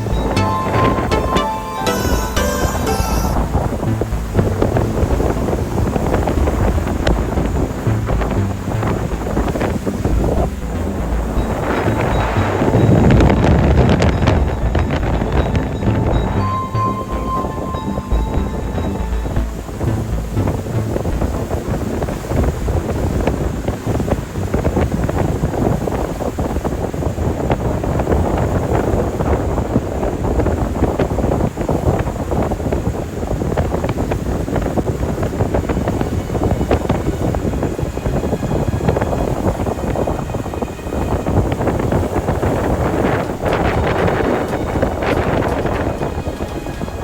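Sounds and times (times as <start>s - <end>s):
boat moving through water: 0.0s - 47.0s
wind buffeting microphone: 3.3s - 47.0s.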